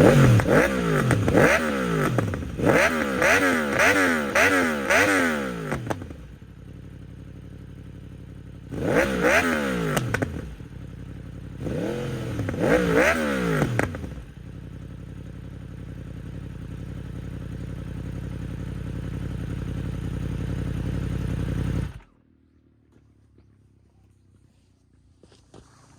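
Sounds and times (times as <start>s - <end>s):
motorcycle engine idling and revving: 0.0s - 25.7s.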